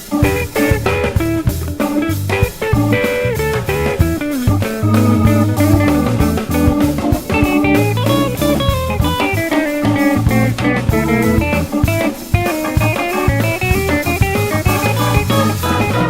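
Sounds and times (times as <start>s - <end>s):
blues guitar music with drums: 0.0s - 16.0s.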